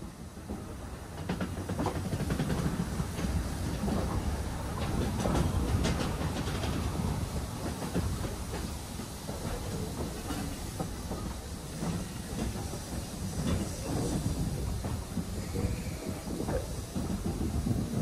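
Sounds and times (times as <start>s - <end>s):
train low rumble: 0.0s - 18.0s
wheels clicking over rail joints: 0.5s - 18.0s.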